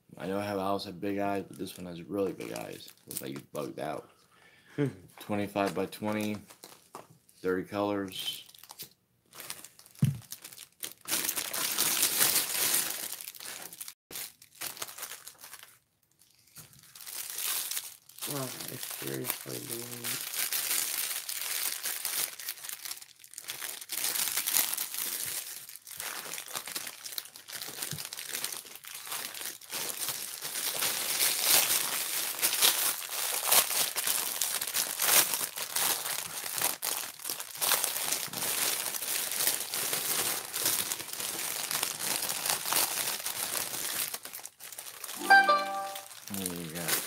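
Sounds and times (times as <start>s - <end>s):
plastic bag crinkling: 5.7s - 7.1s, 8.2s - 47.0s.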